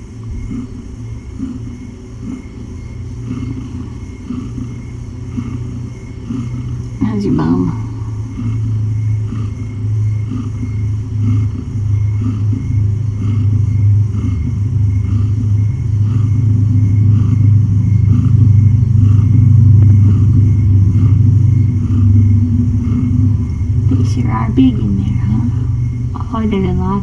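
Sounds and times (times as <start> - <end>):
cat purring loudly: 0.0 - 27.0.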